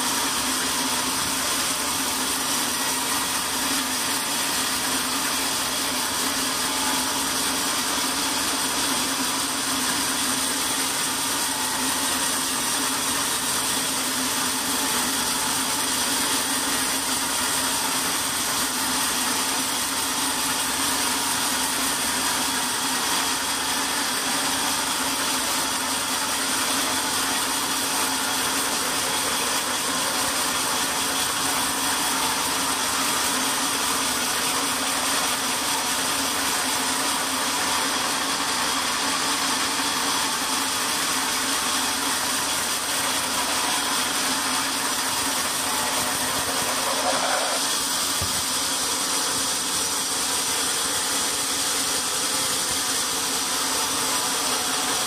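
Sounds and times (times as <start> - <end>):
band saw cutting a log: 0.0 - 55.0.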